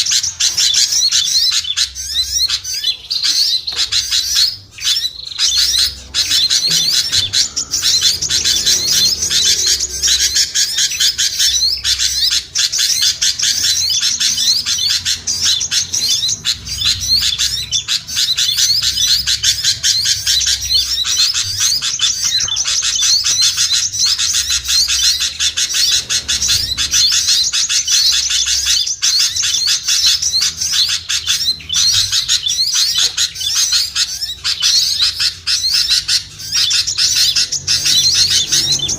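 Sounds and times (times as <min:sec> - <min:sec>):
songbirds chirping and chattering: 0:00.0 - 0:38.9.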